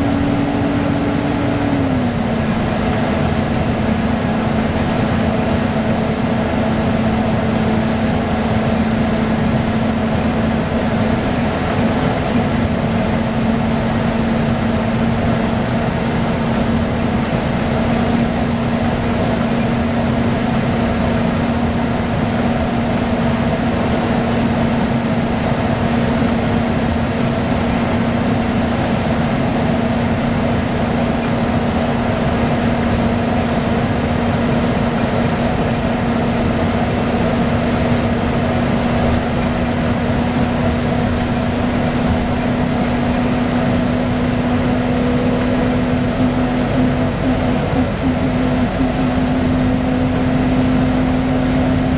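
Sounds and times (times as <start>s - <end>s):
bus engine droning: 0.0s - 51.9s
road noise: 0.0s - 51.9s
ventilation fans running: 0.0s - 51.9s.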